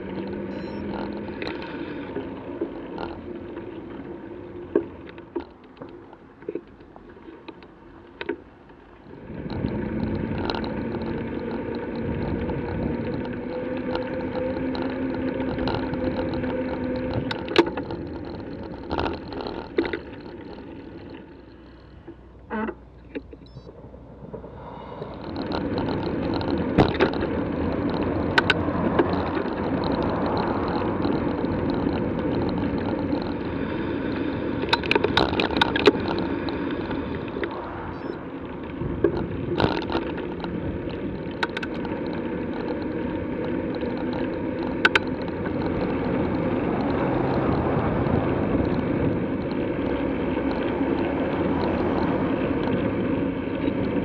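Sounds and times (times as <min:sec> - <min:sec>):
road and wind noise: 0:00.0 - 0:54.0
sharp clicks and knocks: 0:04.7 - 0:08.5, 0:09.4 - 0:52.9.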